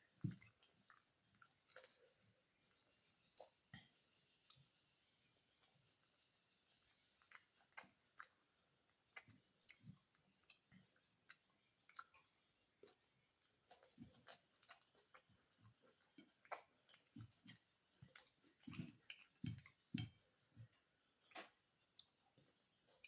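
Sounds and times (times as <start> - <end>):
chewing with wet mouth clicks: 0.0 - 4.8, 5.5 - 23.0.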